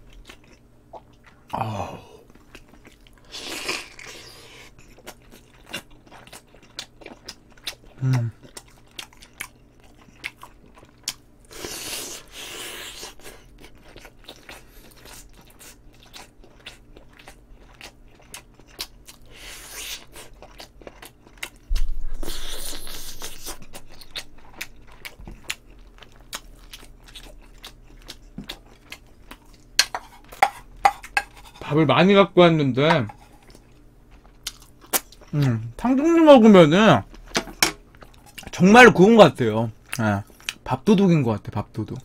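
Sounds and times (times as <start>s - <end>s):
chewing and biting food: 0.0s - 1.6s, 2.3s - 31.7s, 33.1s - 35.6s, 37.0s - 38.6s.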